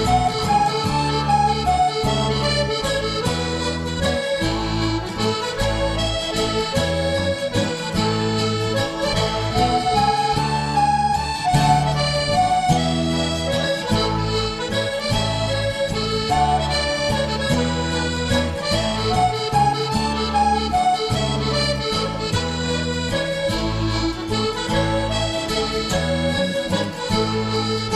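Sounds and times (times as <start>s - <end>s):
accordion playing held chords: 0.0s - 27.9s
steady bass: 0.0s - 27.9s.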